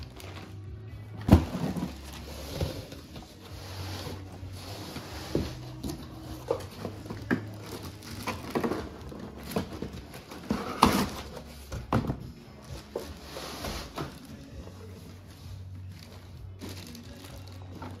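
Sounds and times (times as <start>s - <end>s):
cardboard box and bag rustling: 0.0s - 18.0s.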